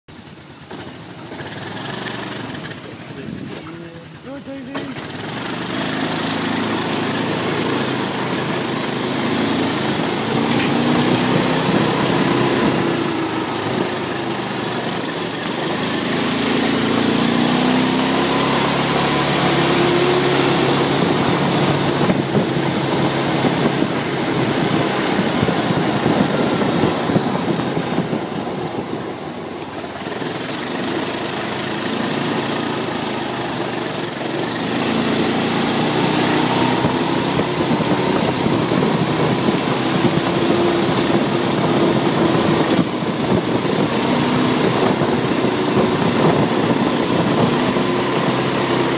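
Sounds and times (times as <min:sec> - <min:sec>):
quad bike engine revving: 0:00.5 - 0:48.9.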